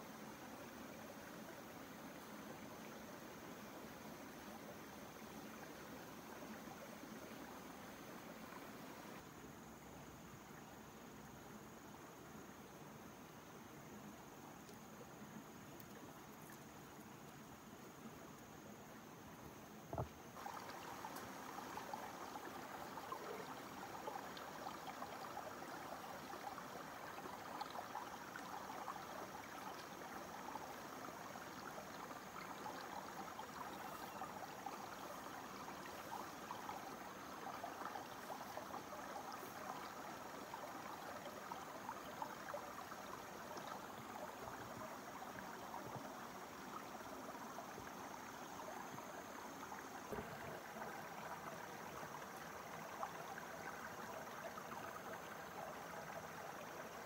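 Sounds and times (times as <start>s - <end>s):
stream trickling over rocks: 0.0s - 57.0s.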